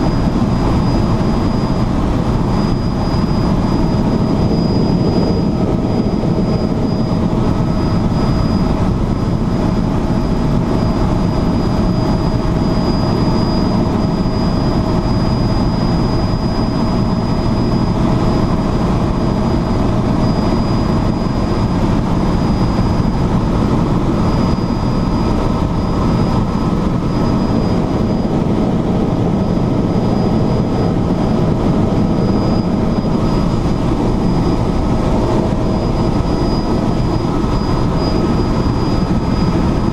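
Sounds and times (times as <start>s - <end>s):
helicopter engine and rotor drone: 0.0s - 39.9s
thin high whine: 0.0s - 39.9s.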